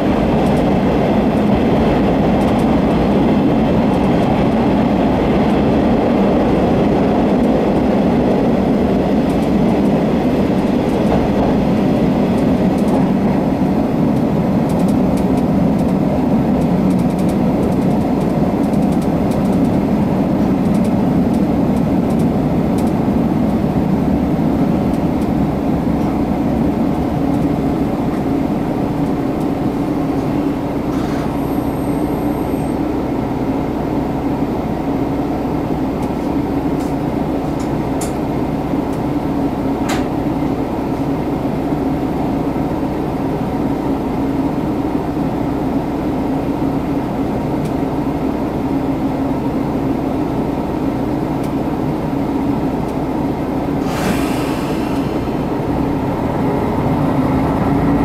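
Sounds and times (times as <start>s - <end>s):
railcar slowing to a stop: 0.0s - 58.0s.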